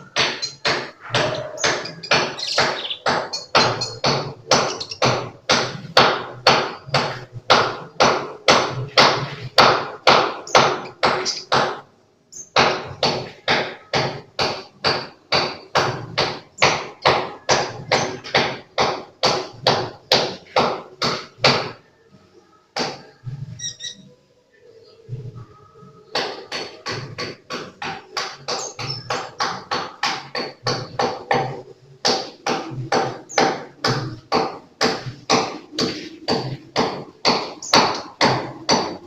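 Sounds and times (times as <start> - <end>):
rhythmic sharp knocks: 0.0 - 21.8, 26.1 - 39.0.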